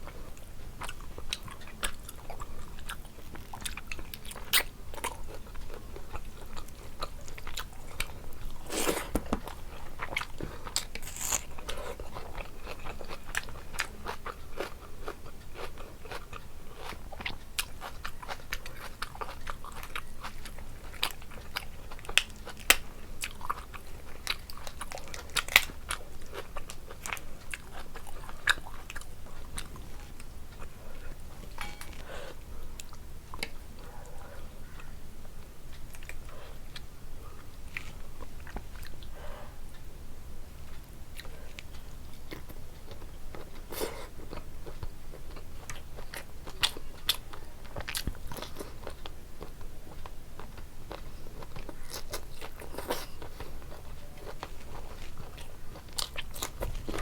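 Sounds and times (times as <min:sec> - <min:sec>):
person chewing and crunching food: 0:00.0 - 0:39.8, 0:40.6 - 0:57.0.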